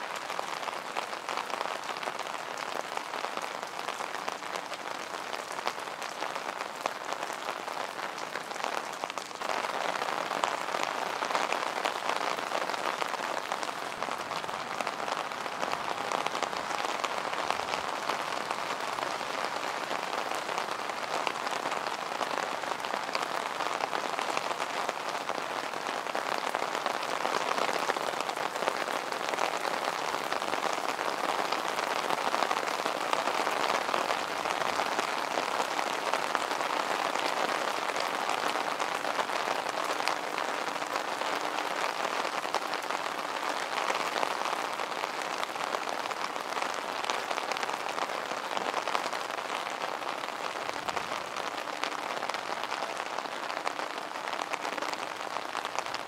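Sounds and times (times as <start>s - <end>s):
rain on pavement: 0.0s - 56.0s.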